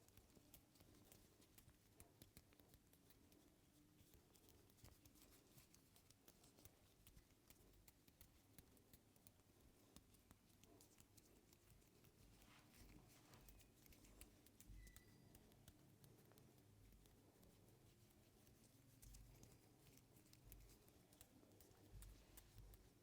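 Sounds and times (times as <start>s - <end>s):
hands rubbing hair and scalp: 0.0s - 23.0s
small crackles and light taps: 0.0s - 23.0s.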